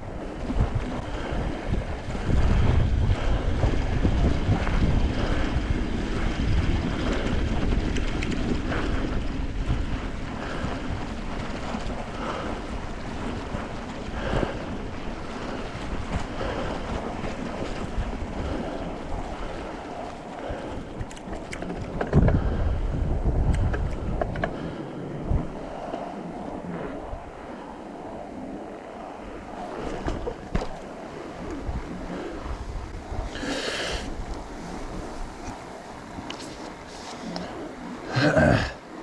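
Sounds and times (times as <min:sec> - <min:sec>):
bike tyres crunching through snow: 0:00.0 - 0:22.8, 0:24.2 - 0:39.0
wind rumbling on microphone: 0:00.0 - 0:39.0.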